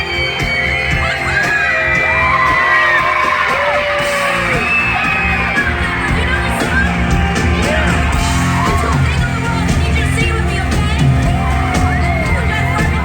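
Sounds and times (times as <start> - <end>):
crowd screaming and whooping: 0.0 - 13.0
loud concert music: 0.0 - 13.0.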